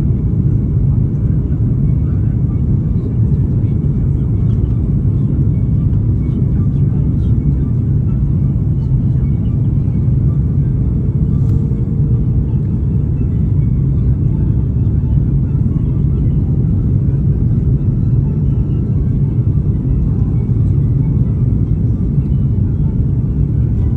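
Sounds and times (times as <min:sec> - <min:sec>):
airliner cabin rumble: 0:00.0 - 0:23.9.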